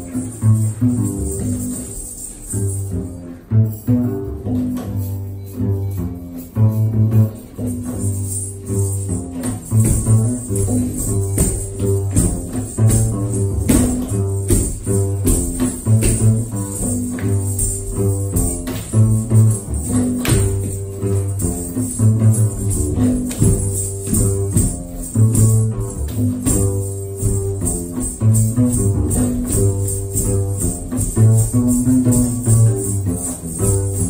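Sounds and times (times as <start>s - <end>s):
double bass playing deep notes: 0.0s - 34.0s.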